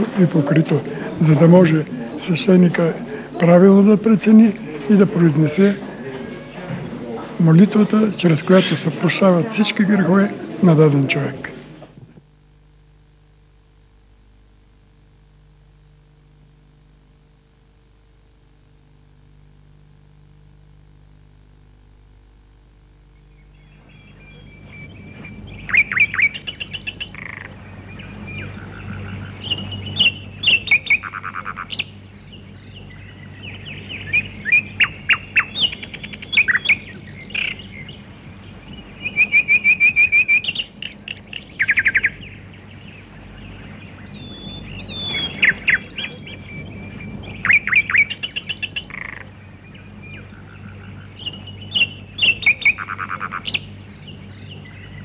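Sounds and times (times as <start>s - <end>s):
songbirds chirping and trilling: 0.0s - 12.0s, 22.7s - 55.0s
steady low hum: 0.0s - 55.0s.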